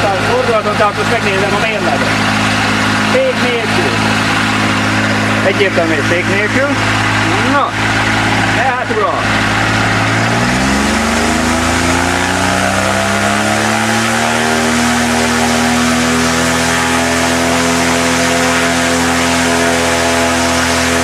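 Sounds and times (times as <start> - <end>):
propeller engine at full throttle: 0.0 - 21.0.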